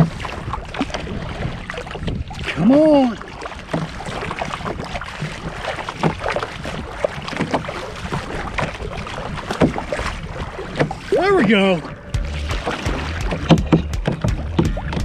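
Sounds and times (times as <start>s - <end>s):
kayak paddle splashing: 0.0s - 15.0s
water washing along hull: 0.0s - 15.0s.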